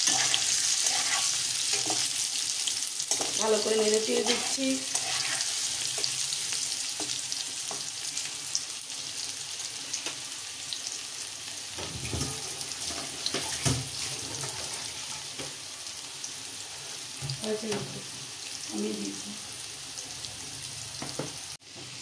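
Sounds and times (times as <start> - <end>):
potatoes sizzling in hot oil: 0.0 - 22.0.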